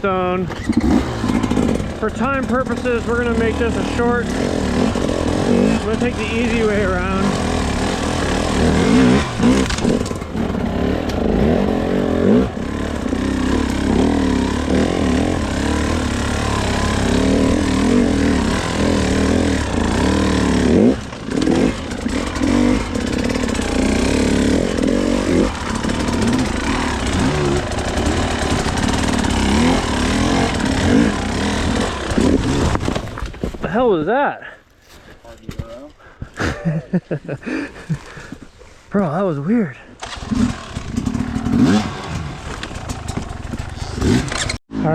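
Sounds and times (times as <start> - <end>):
dirt bike engine revving: 0.0 - 33.0, 40.0 - 44.9.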